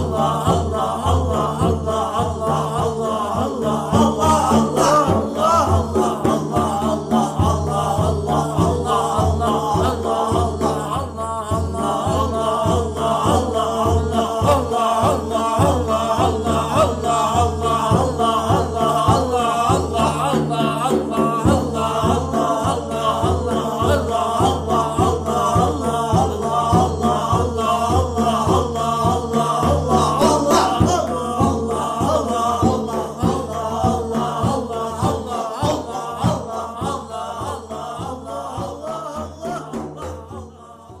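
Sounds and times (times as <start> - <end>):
steady pulsing beat: 0.0 - 40.7
voices chanting together: 0.0 - 41.0.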